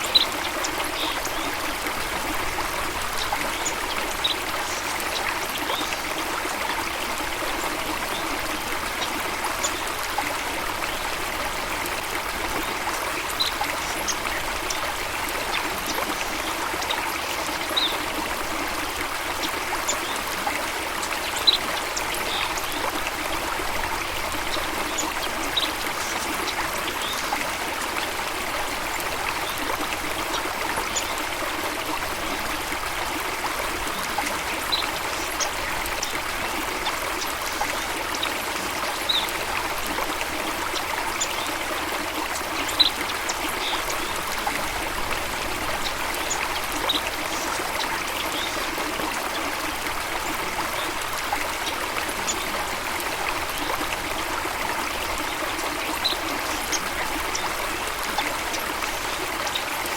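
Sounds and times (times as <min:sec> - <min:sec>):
stream water babbling: 0:00.0 - 0:59.9.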